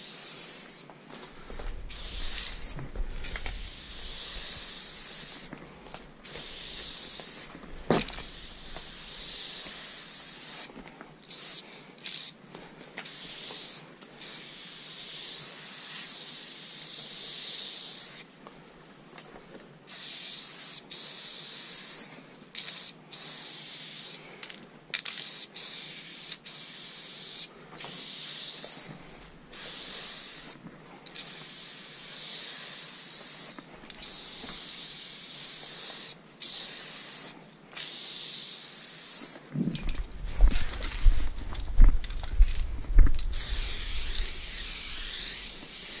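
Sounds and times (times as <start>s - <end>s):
spray paint can hissing: 0.0s - 0.9s, 1.9s - 5.5s, 6.2s - 12.4s, 13.0s - 18.3s, 19.9s - 24.2s, 25.0s - 28.9s, 29.5s - 40.0s, 40.6s - 41.3s, 43.2s - 46.0s.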